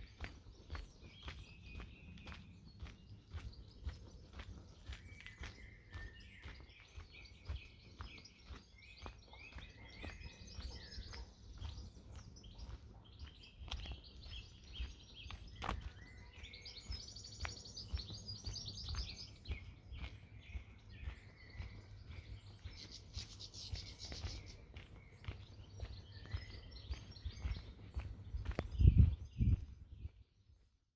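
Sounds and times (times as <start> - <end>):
footsteps of person walking: 0.0 - 30.2
songbirds singing and chirping: 0.0 - 30.9.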